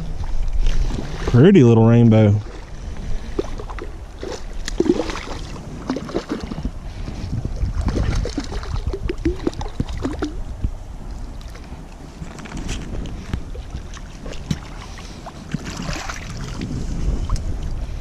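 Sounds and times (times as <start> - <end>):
water splashing and gurgling: 0.0 - 18.0
wind noise on microphone: 0.0 - 18.0.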